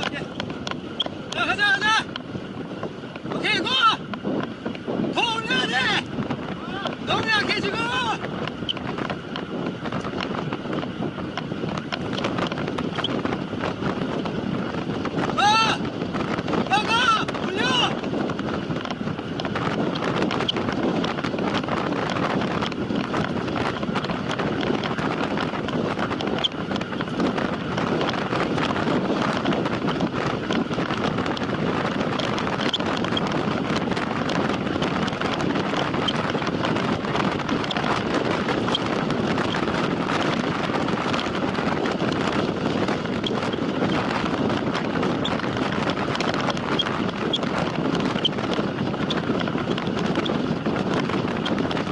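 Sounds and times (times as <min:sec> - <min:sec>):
bicycle tyre noise: 0:00.0 - 0:51.9
wind on microphone: 0:00.0 - 0:51.9.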